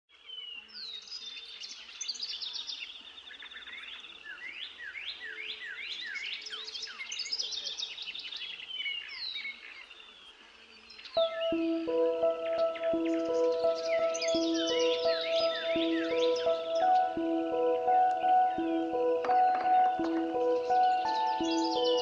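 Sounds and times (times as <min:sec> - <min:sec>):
birds chirping and trilling: 0:00.1 - 0:22.0.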